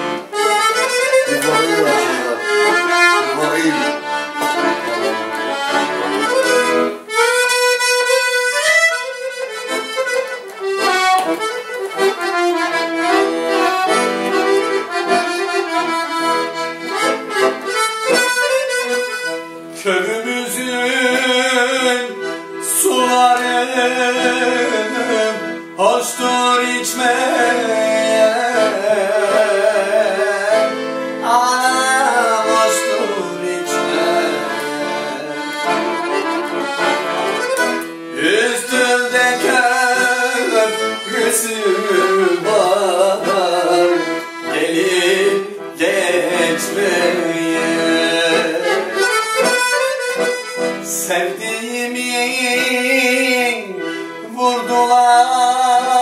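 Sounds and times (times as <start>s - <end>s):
piano accordion playing: 0.0s - 56.0s.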